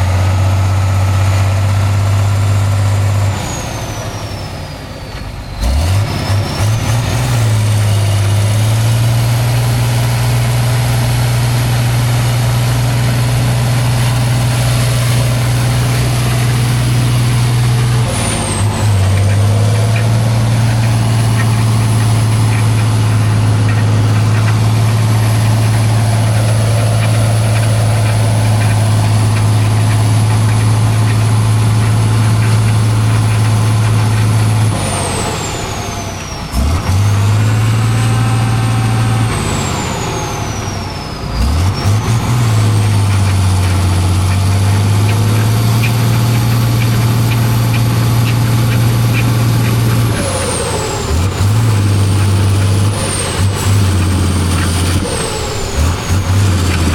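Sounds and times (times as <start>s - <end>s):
truck engine at high revs: 0.0s - 56.9s.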